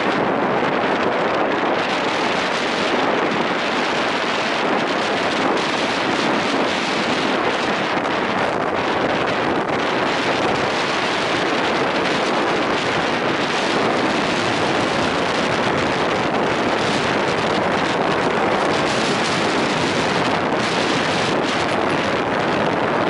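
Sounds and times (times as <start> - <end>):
bus running noise: 0.0 - 23.0
wind on microphone: 0.0 - 23.0.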